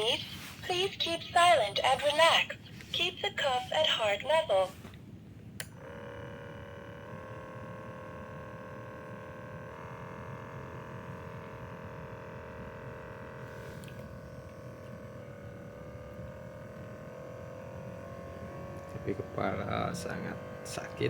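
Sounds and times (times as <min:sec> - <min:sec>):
small air pump motor whine: 0:00.0 - 0:21.0.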